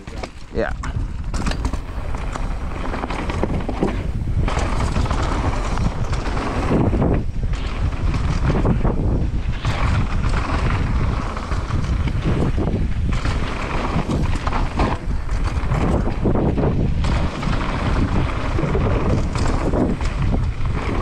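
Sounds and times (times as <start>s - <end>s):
bike knocking and rattling: 0.0s - 21.0s
tyres rumbling on dirt trail: 0.0s - 21.0s
wind buffeting microphone: 0.0s - 21.0s.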